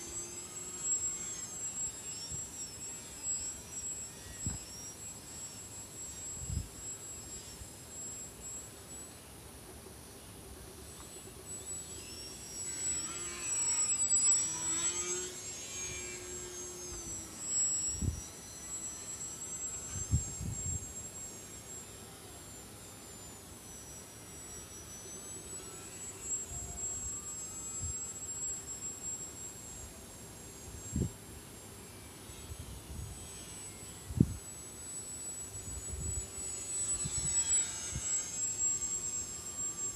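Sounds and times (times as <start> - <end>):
model plane motor whining: 0.0 - 9.2, 10.2 - 39.9.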